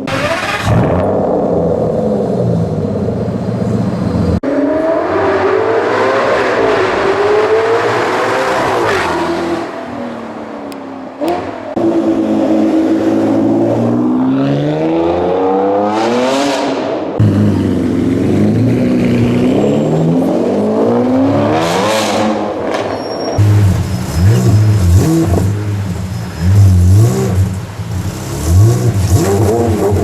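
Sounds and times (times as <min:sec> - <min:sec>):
supercar engines accelerating hard: 0:00.0 - 0:30.0.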